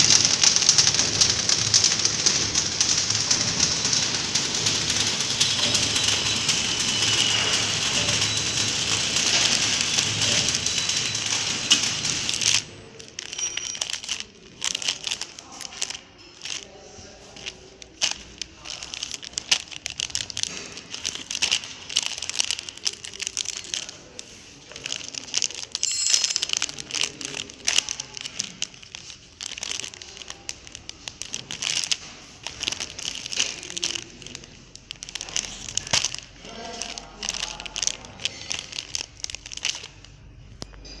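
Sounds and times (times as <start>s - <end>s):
plastic film crinkling: 0.0s - 40.7s.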